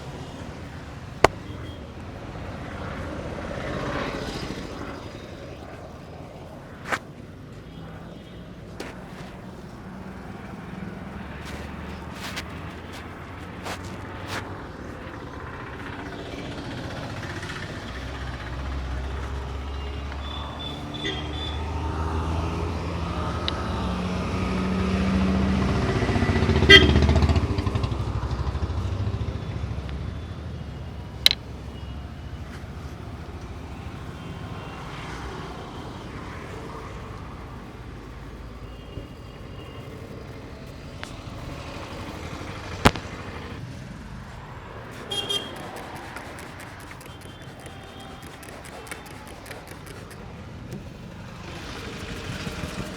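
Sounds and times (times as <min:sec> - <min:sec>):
vehicle engine rumble passing: 0:09.3 - 0:38.6, 0:39.4 - 0:52.9.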